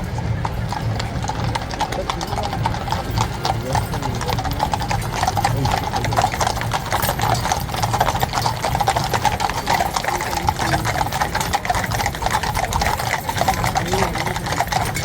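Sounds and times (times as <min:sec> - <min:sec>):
horse hooves clip-clopping on road: 0:00.0 - 0:15.0.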